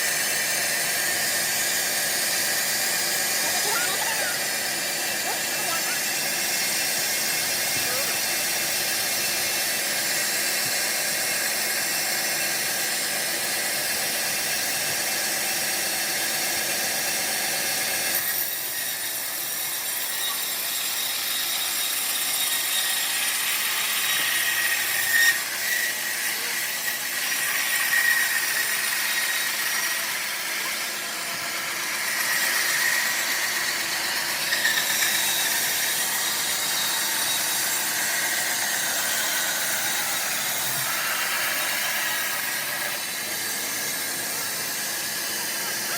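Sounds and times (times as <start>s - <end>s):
sawmill blade cutting log: 0.0s - 45.9s.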